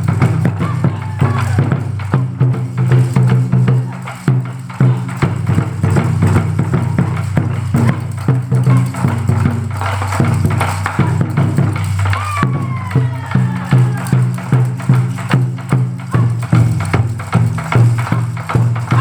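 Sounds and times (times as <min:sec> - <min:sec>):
drum ensemble sharp strikes: 0:00.0 - 0:19.0
low booming drum resonance: 0:00.0 - 0:19.0.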